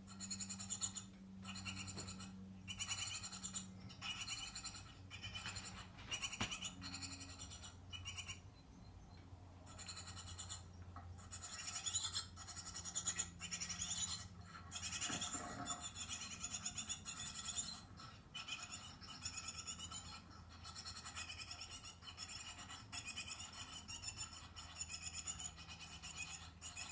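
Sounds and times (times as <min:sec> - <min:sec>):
nestlings chirping: 0:00.0 - 0:26.9.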